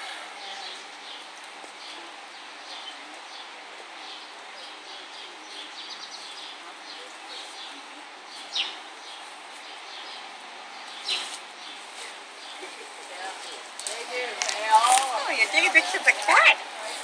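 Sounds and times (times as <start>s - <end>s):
outdoor background noise: 0.0s - 17.0s
small birds chirping: 0.4s - 17.0s.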